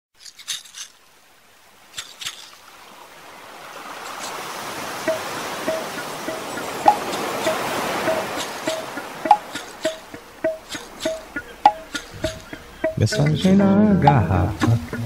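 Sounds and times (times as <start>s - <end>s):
water or surf wash: 0.3s - 15.0s.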